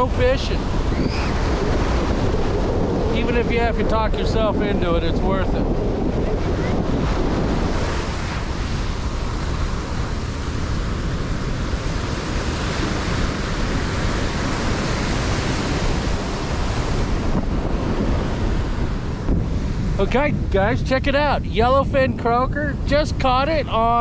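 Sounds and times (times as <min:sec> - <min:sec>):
ocean surf breaking: 0:00.0 - 0:24.0
wind rumbling on microphone: 0:00.0 - 0:24.0.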